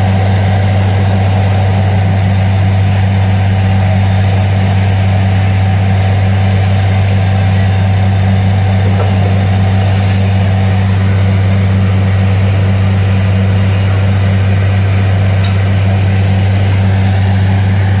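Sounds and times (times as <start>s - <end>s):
drilling rig engine droning: 0.0s - 18.0s.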